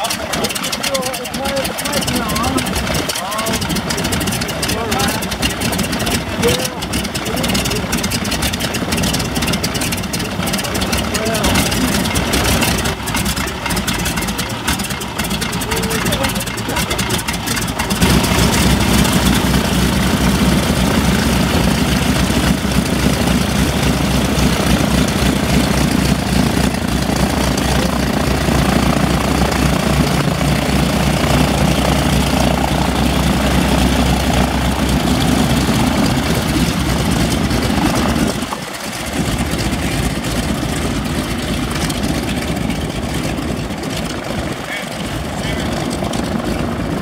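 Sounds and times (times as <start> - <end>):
biplane radial engine and propeller: 0.0 - 47.0.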